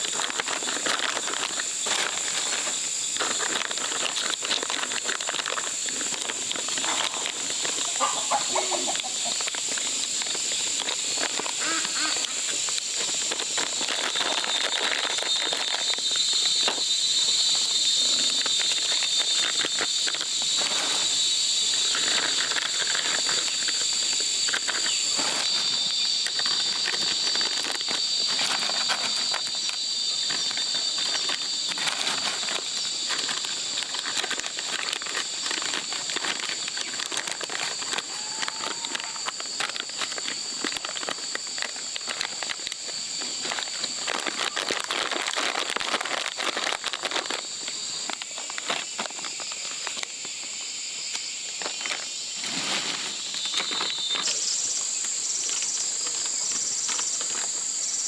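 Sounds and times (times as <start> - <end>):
crackles and rustles: 0.0 - 58.0
high-pitched insect chorus: 0.0 - 58.0.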